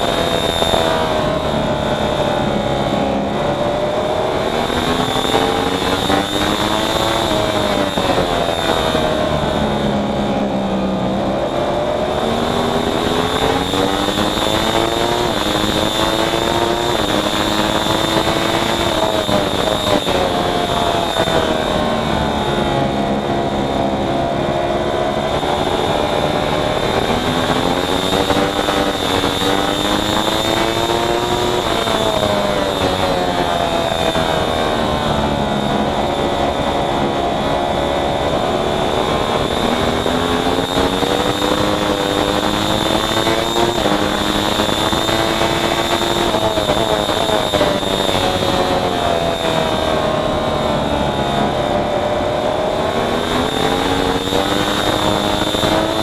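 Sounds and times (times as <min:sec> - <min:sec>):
racing motorcycle engine: 0:00.0 - 0:56.0
wind rush over microphone: 0:00.0 - 0:56.0.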